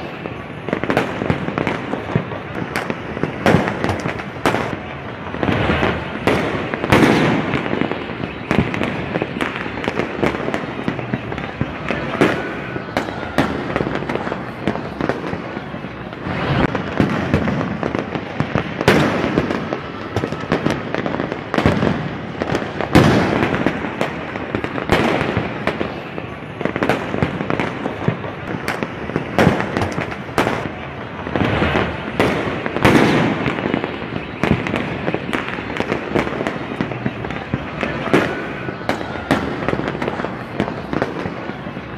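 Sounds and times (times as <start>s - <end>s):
continuous noisy din: 0.0s - 41.9s
fireworks and firecrackers banging: 0.0s - 41.9s.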